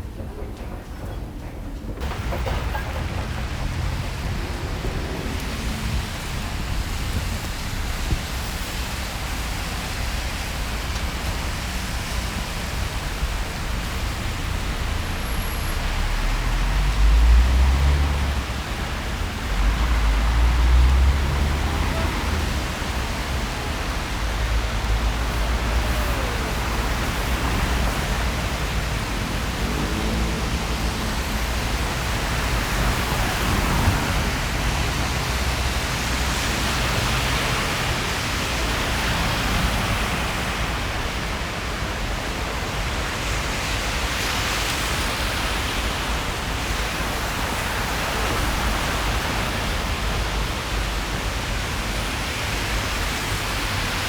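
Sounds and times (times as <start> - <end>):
rain on street: 1.9 - 54.0.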